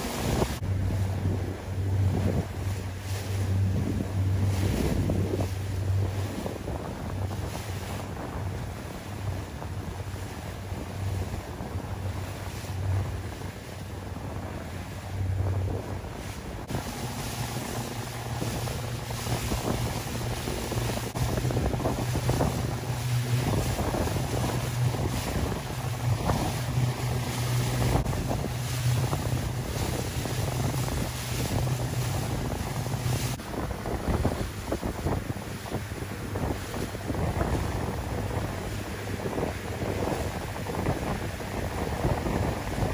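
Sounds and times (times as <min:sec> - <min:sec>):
low motor hum: 0:00.0 - 0:42.9
water splashing: 0:00.0 - 0:42.9
wind buffeting microphone: 0:00.0 - 0:42.9.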